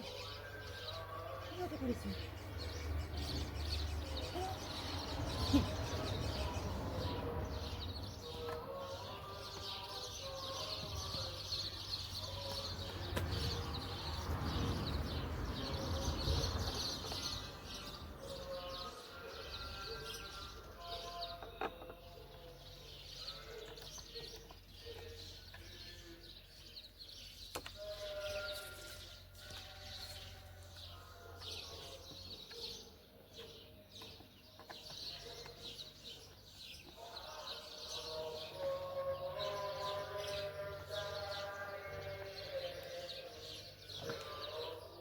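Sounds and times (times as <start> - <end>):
birds chirping and calling: 0.0 - 45.0.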